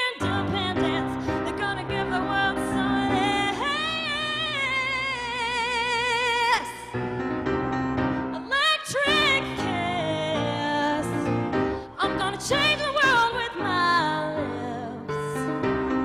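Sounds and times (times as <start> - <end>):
woman singing with vibrato: 0.0 - 7.0, 8.3 - 16.0
piano chords: 0.0 - 16.0.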